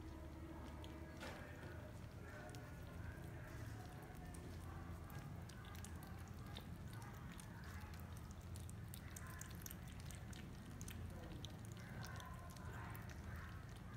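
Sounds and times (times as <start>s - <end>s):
kittens chewing wetly: 0.0s - 13.9s.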